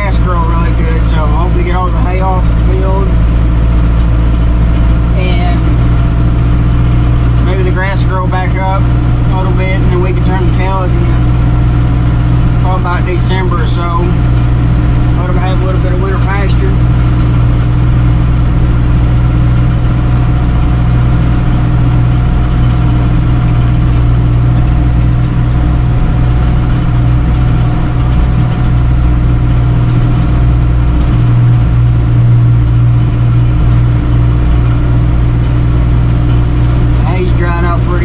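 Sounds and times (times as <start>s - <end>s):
hay baler running: 0.0s - 38.0s
tractor engine running steadily: 0.0s - 38.0s.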